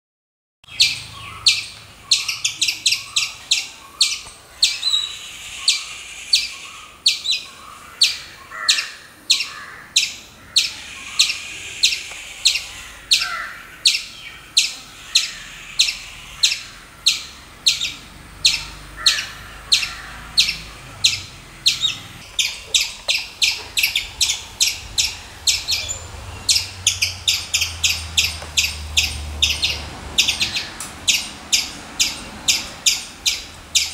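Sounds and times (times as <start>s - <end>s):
squirrel calling: 0.6s - 33.9s.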